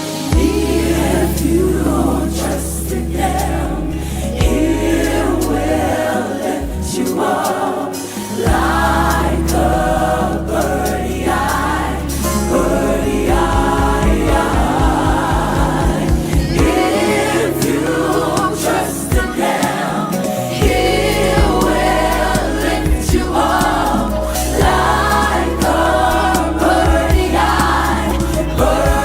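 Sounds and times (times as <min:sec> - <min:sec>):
instrumental backing with bass line: 0:00.0 - 0:07.6, 0:08.4 - 0:29.0
gospel choir singing: 0:00.0 - 0:29.0.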